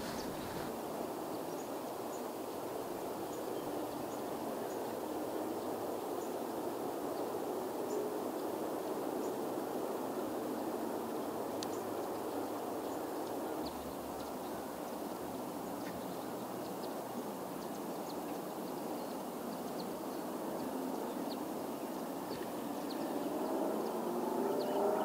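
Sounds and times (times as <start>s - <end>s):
rushing outdoor background noise: 0.0s - 25.0s.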